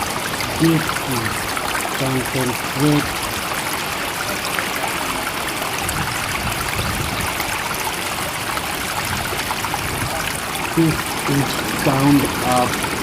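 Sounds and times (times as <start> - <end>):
rushing flowing water: 0.0 - 13.0.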